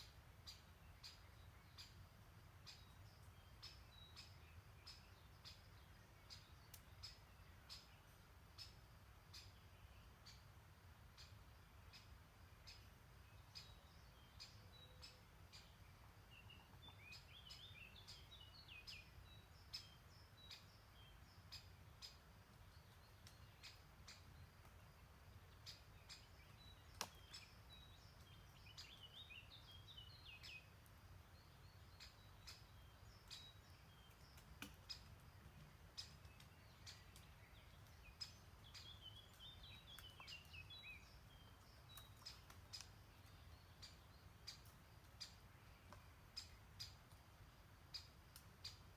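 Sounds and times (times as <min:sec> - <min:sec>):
songbird twittering: 0:00.0 - 0:10.5, 0:11.1 - 0:48.9.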